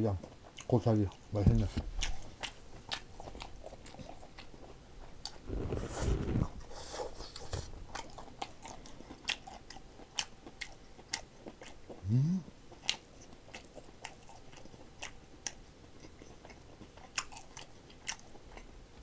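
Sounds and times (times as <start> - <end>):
person chewing food: 0.2 - 1.3, 2.0 - 19.0.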